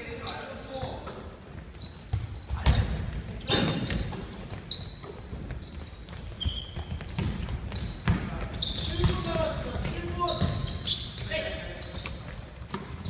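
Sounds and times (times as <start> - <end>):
sneakers squeaking on court: 0.0 - 13.0
basketball bouncing on wooden floor: 0.8 - 11.2.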